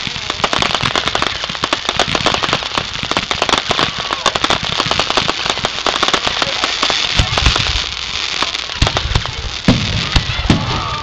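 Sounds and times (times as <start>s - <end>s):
fireworks crackling: 0.0s - 11.0s
fireworks hissing: 0.0s - 11.0s.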